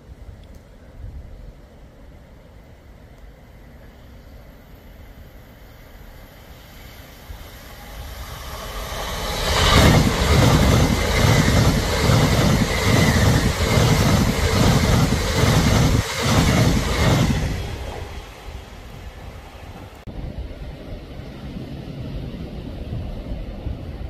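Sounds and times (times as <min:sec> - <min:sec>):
train passing at speed: 0:01.8 - 0:24.0.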